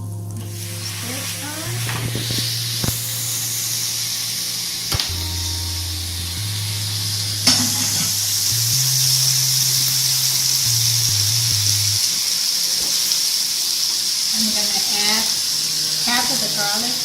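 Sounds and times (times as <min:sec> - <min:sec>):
faint background music: 0:00.0 - 0:17.0
butter and oil sizzling: 0:00.3 - 0:17.0.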